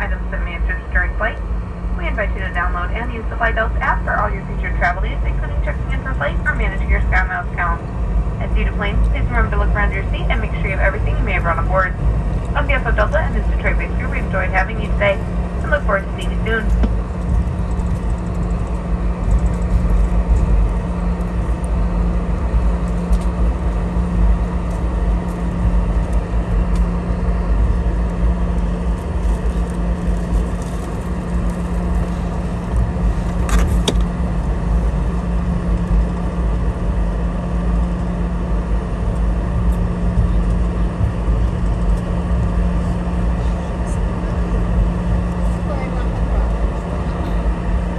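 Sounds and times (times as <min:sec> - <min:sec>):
jet engines idling rumble: 0:00.0 - 0:47.9.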